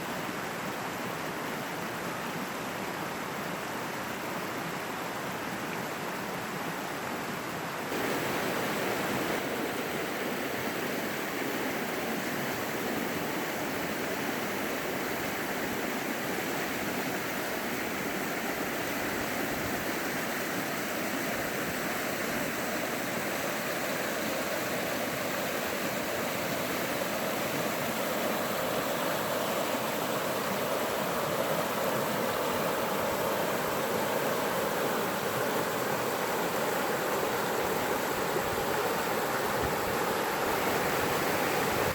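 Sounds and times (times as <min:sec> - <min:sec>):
stream running water: 0:00.0 - 0:41.9.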